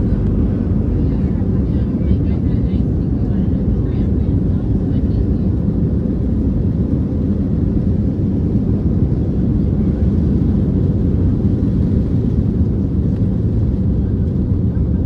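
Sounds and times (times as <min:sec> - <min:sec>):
jet engines rumbling from cabin: 0:00.0 - 0:15.0.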